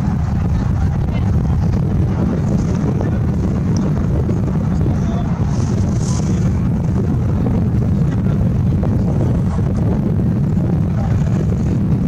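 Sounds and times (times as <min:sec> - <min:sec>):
people's voices: 0:00.0 - 0:11.7
wind rumble on microphone: 0:00.0 - 0:12.0.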